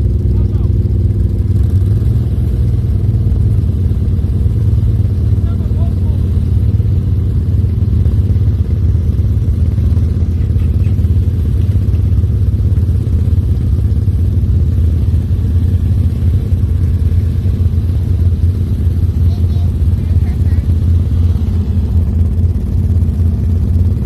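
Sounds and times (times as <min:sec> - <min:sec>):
atv engines idling: 0:00.0 - 0:24.0.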